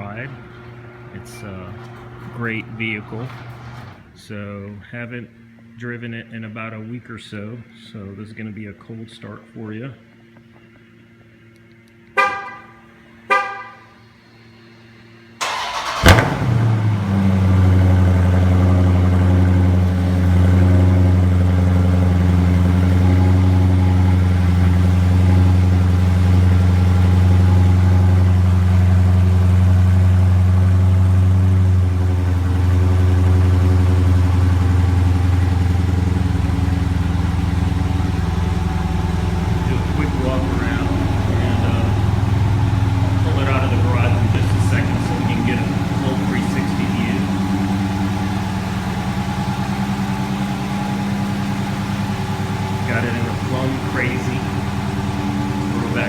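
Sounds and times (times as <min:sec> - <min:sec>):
engine starting and idling: 0:00.0 - 0:04.8, 0:14.2 - 0:56.0.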